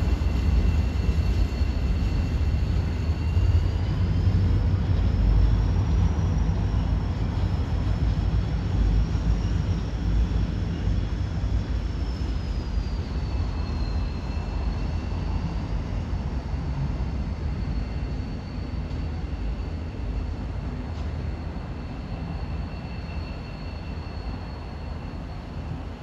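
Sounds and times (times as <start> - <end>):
faint high whine: 0.0 - 26.0
freight train rumbling: 0.0 - 26.0.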